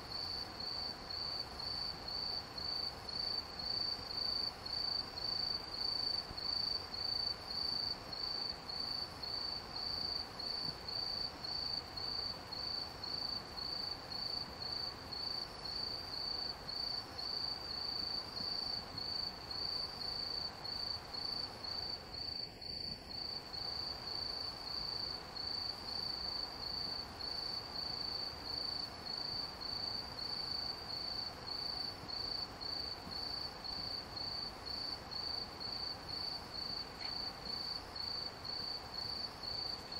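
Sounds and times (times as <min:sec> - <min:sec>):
faint background noise: 0:00.0 - 0:39.9
insect chirping: 0:00.1 - 0:39.9.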